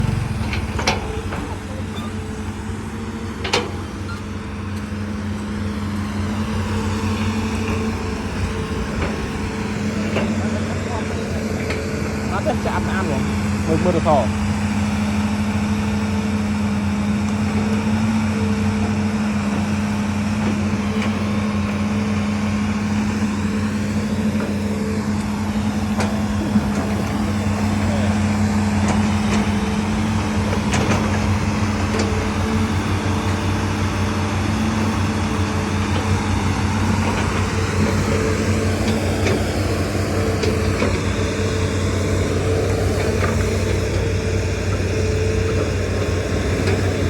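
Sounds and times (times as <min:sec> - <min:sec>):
heavy engine running steadily: 0:00.0 - 0:47.0.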